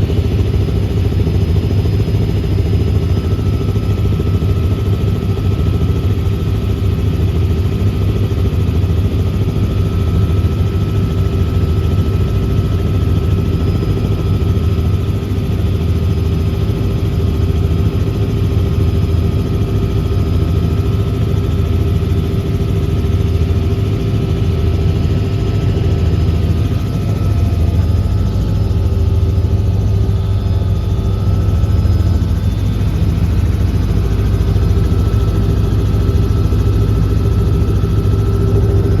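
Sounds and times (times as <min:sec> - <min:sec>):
helicopter rotor and engine drone: 0:00.0 - 0:39.0.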